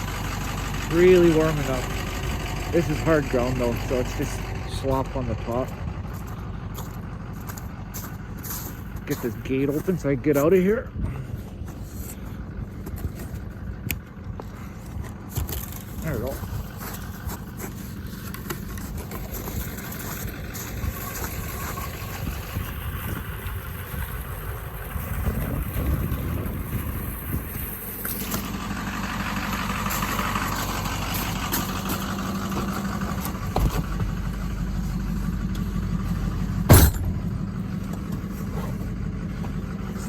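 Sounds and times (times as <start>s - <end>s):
pickup truck engine running: 0.0s - 40.0s.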